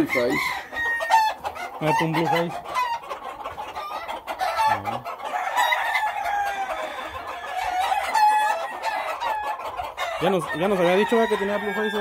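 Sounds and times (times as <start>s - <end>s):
roosters crowing: 0.0s - 12.0s.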